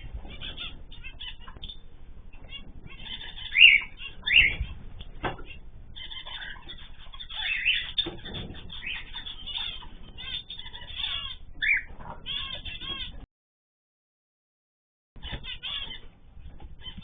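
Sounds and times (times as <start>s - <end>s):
cage birds chirping: 0.0s - 13.2s, 15.2s - 17.0s.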